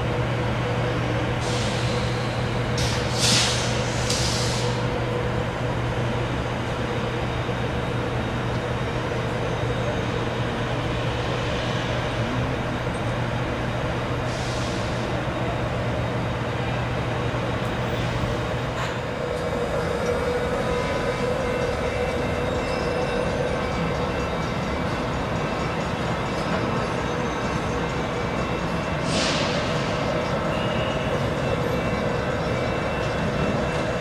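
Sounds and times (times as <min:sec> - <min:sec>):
light-rail cars rumbling: 0:00.0 - 0:34.0.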